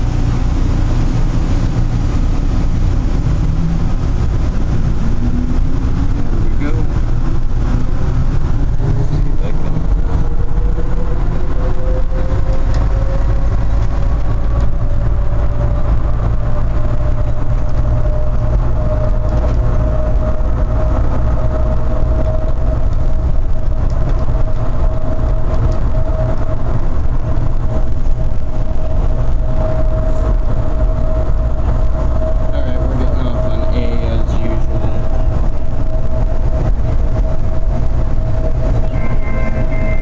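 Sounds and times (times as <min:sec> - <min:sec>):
low train running rumble: 0:00.0 - 0:40.0
train motor whine: 0:00.0 - 0:40.0.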